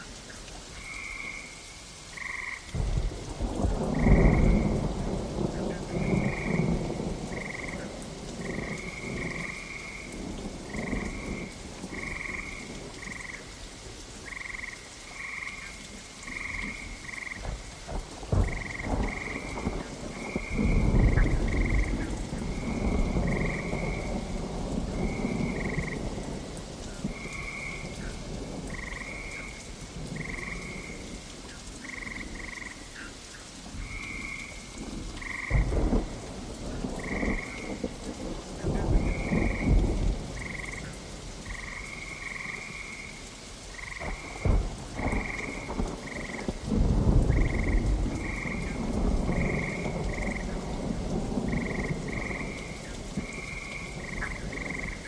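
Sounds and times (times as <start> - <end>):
steady rain: 0.0 - 55.0
thunder rumbling: 2.2 - 13.5, 16.2 - 32.8, 33.7 - 55.0.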